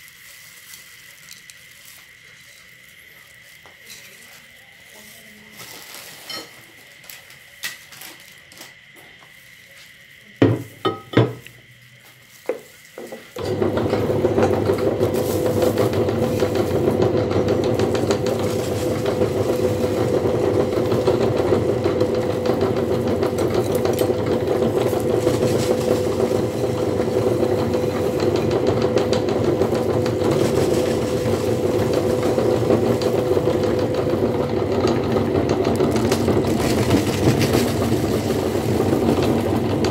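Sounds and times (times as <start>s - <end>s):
meat grinder humming: 6.6s - 39.9s.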